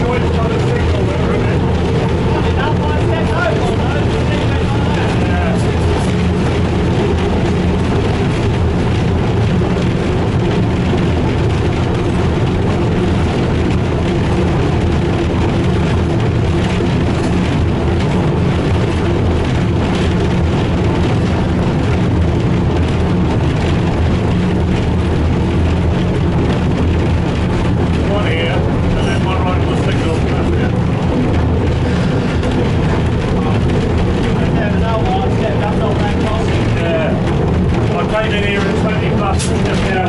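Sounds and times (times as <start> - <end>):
diesel locomotive engine drone: 0.0 - 40.0.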